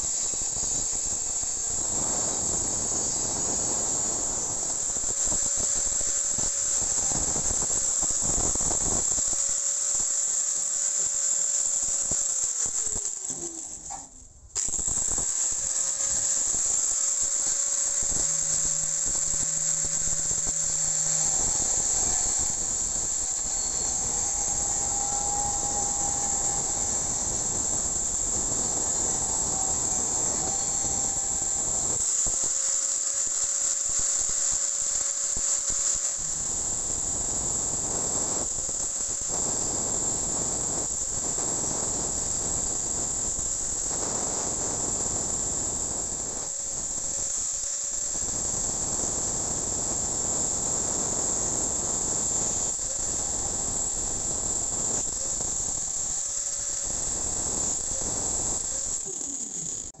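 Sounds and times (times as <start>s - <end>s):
angle grinder whine: 0.0s - 60.0s
grinding disc grating in steel: 0.0s - 60.0s.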